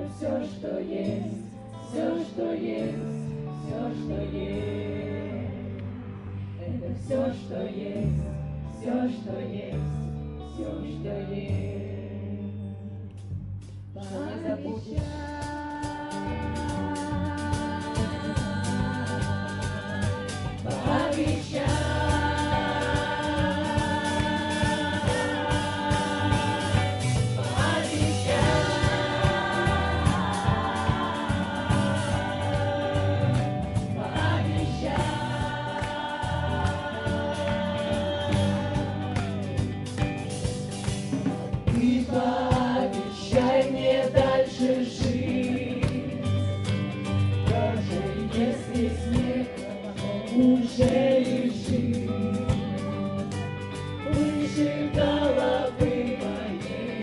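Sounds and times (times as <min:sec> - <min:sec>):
choir singing: 0:00.0 - 0:06.0, 0:06.6 - 0:12.6, 0:14.0 - 0:39.8, 0:41.7 - 0:57.0.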